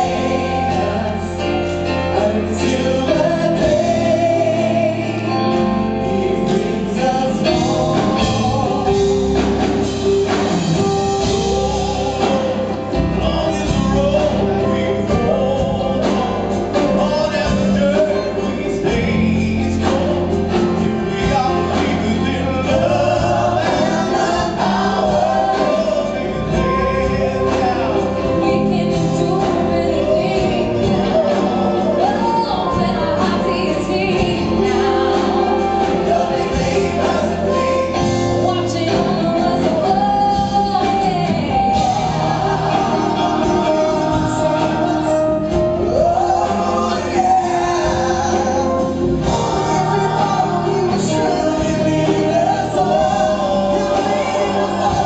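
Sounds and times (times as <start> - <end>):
church worship band playing: 0.0 - 55.0
group of singers: 0.0 - 55.0.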